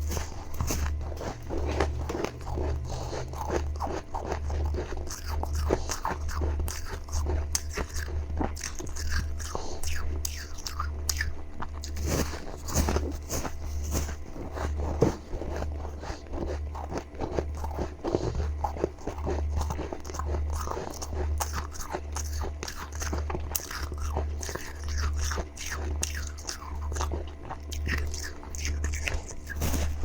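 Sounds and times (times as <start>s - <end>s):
frost being chewed: 0.0s - 30.0s
low pulsing hum: 0.0s - 30.0s.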